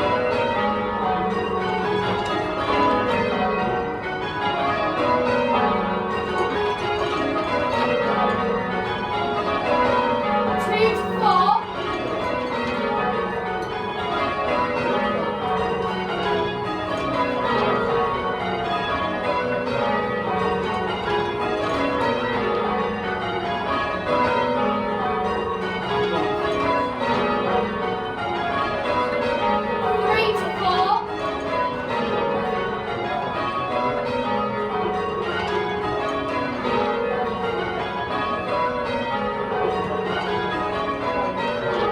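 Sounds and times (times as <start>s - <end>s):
church bells ringing: 0.0s - 41.9s.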